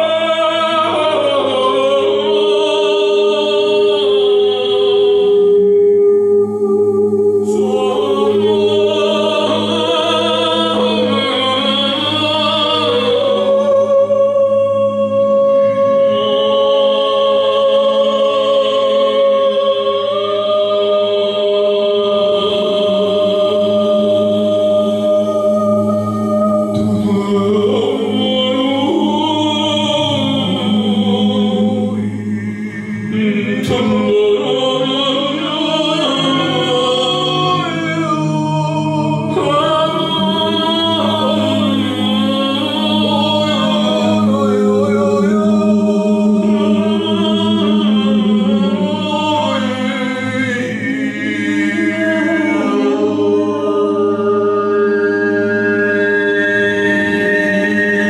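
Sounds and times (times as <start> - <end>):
man and woman singing: 0.0 - 54.8
low held vocal drone: 0.0 - 58.0.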